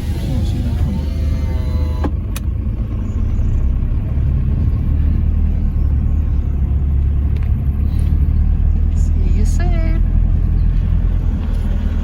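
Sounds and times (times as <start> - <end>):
pickup truck driving: 0.0 - 12.0.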